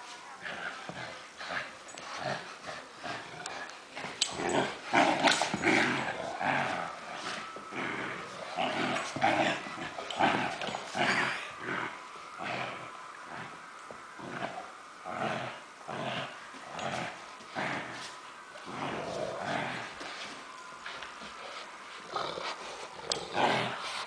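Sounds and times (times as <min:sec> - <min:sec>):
dogs growling in play: 0:00.0 - 0:24.0.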